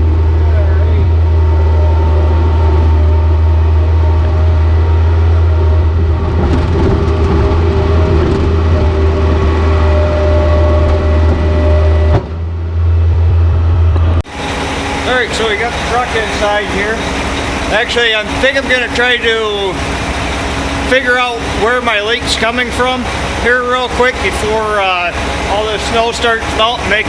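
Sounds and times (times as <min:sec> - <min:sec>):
diesel engine humming: 0:00.0 - 0:27.0.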